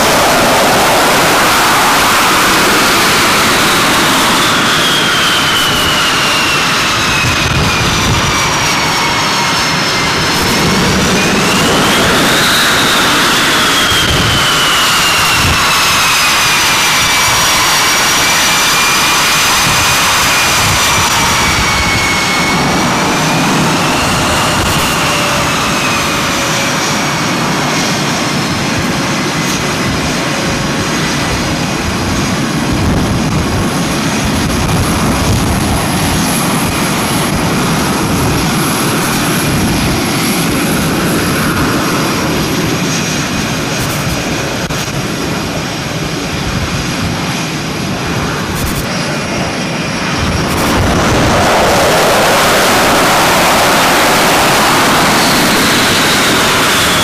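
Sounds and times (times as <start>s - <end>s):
jet engine whine: 0.0s - 57.0s
jet engines roaring: 0.0s - 57.0s.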